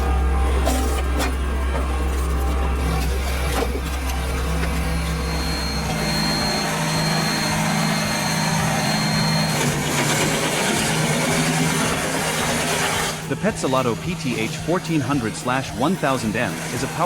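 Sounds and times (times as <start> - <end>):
heavy machinery engine drone: 0.0 - 17.0
thin high whine: 0.0 - 17.0.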